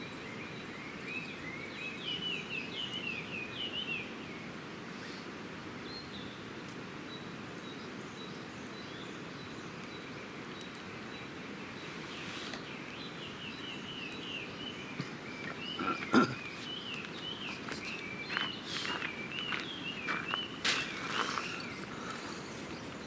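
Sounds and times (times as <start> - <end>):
birds chirping: 0.4 - 23.0.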